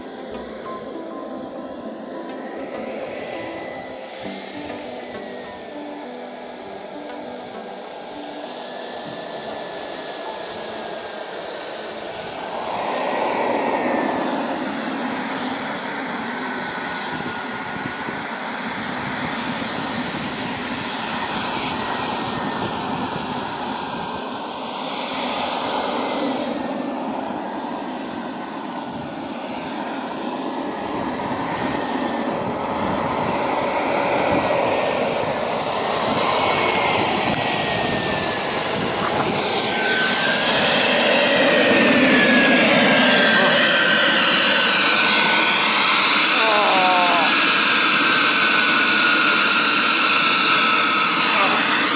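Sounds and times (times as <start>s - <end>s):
small jet turbine whine: 0.0s - 51.9s
steady rushing hiss: 0.0s - 51.9s.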